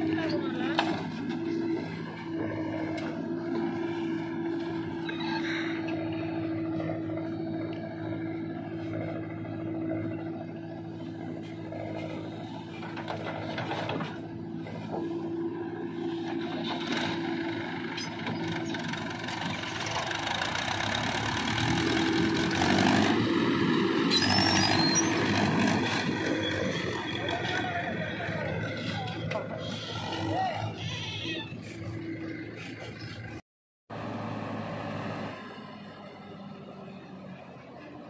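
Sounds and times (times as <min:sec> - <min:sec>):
diesel engines humming: 0:00.0 - 0:38.0.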